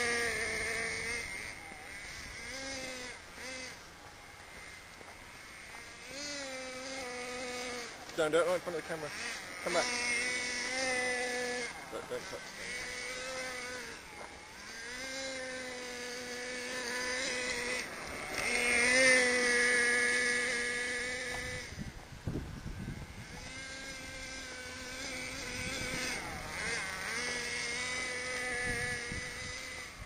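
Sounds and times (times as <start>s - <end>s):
model truck engine revving: 0.0s - 30.0s.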